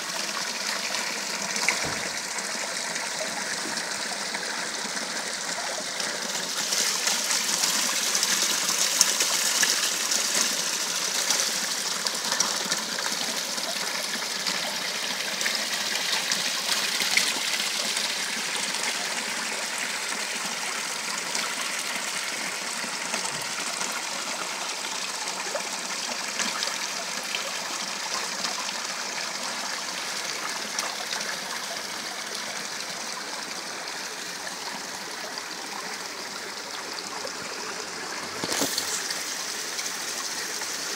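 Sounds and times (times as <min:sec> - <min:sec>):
fountain water splashing over stone: 0:00.0 - 0:40.9.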